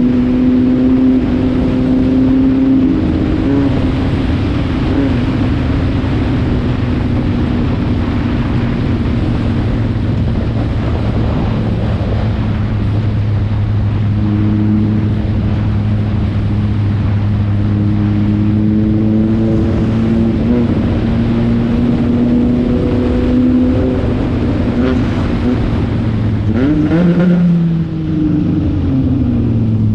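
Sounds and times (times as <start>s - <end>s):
race car engines running: 0.0s - 29.9s.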